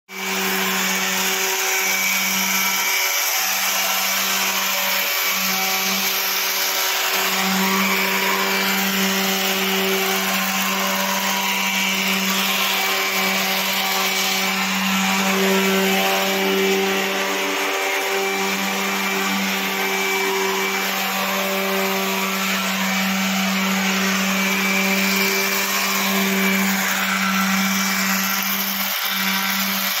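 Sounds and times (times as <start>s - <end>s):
electric sander on metal door: 0.1s - 30.0s.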